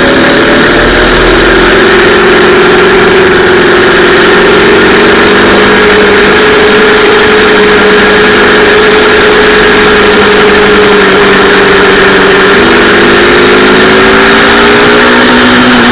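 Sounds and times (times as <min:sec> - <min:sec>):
motorcycle engine at high revs: 0:00.0 - 0:15.9.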